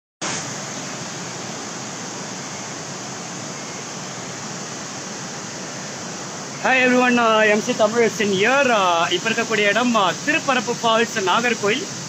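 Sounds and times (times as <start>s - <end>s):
waterfall roaring: 0.2s - 12.0s.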